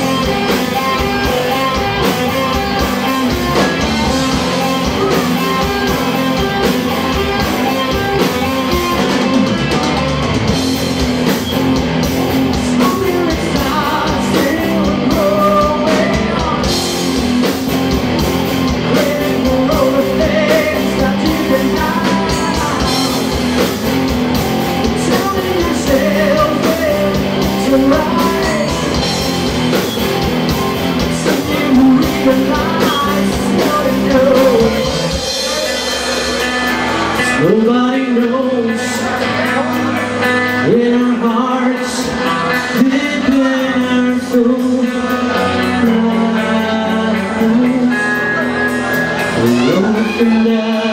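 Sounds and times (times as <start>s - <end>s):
live rock band playing: 0.0s - 50.9s
wavering melodic lead line: 0.0s - 50.9s.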